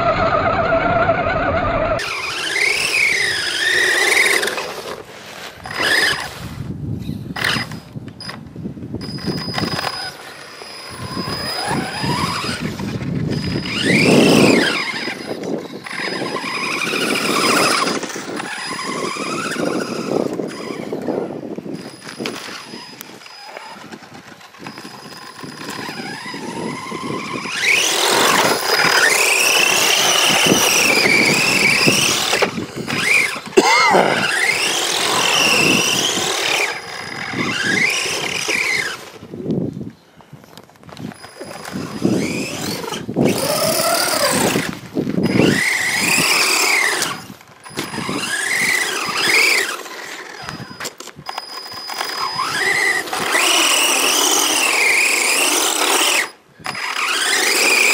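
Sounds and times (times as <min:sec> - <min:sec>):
electric motor of rc car whining: 0:00.0 - 0:39.8, 0:40.5 - 0:57.9.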